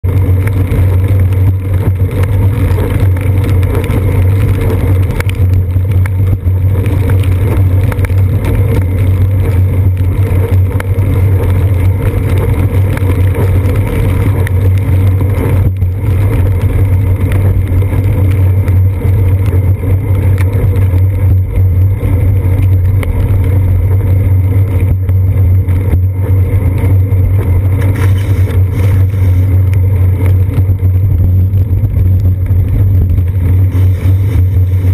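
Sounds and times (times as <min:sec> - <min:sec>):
bicycle rolling on wet pavement: 0:00.0 - 0:34.9
wind noise: 0:00.0 - 0:34.9.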